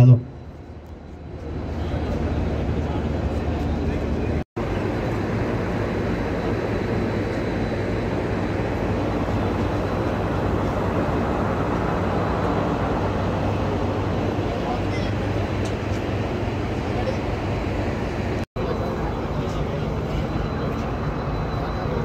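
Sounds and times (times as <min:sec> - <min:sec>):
train engine rumble and hum: 0:00.0 - 0:22.0.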